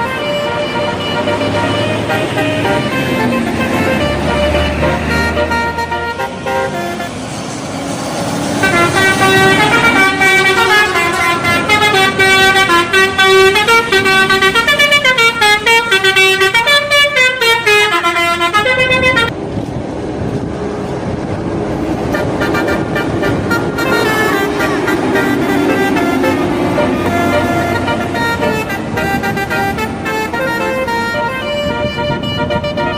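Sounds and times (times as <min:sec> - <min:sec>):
bus horn playing a tune: 0:00.0 - 0:07.7, 0:08.6 - 0:19.3, 0:22.0 - 0:32.9
bus engine: 0:00.0 - 0:32.9
road noise: 0:00.0 - 0:32.9.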